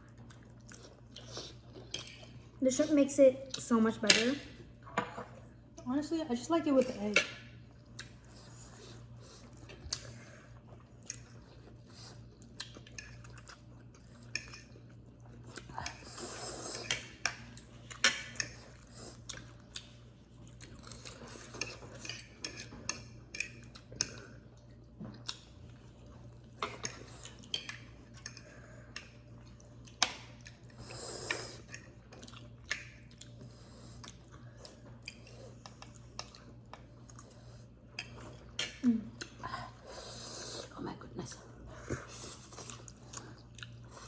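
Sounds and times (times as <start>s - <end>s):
chewing: 0.0s - 2.6s, 7.4s - 44.0s.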